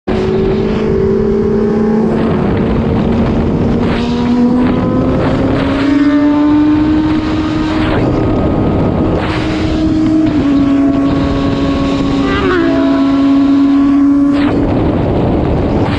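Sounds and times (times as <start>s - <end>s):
motorcycle engine accelerating: 0.1s - 15.9s
wind rushing over microphone: 0.1s - 15.9s.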